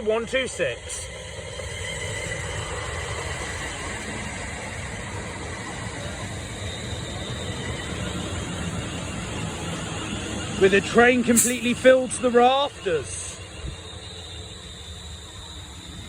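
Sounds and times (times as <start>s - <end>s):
faint high whine: 0.0s - 16.0s
train wheels rumbling on rail: 0.0s - 16.0s.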